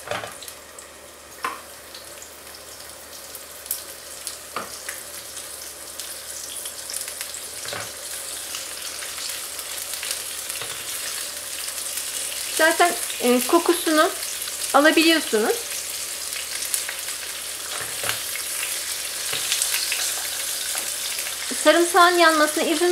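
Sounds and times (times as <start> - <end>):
fish sizzling in a frying pan: 0.0 - 22.9.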